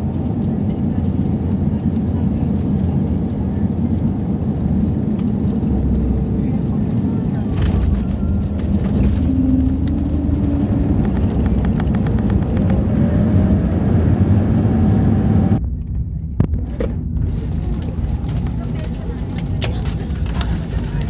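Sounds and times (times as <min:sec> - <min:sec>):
airliner engines roaring: 0:00.0 - 0:21.0
engine whine: 0:00.0 - 0:21.0
runway rumble: 0:00.0 - 0:21.0.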